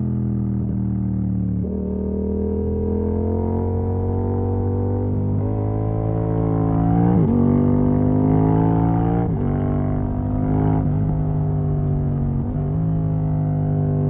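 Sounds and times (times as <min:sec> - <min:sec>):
loud motorcycle engine accelerating: 0:00.6 - 0:14.0.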